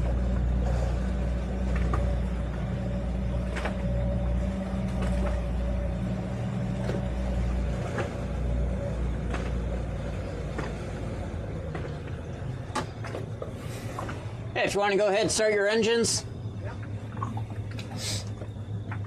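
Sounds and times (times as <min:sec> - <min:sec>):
high motor whine: 0:00.0 - 0:19.0
outboard motors running: 0:00.0 - 0:19.0.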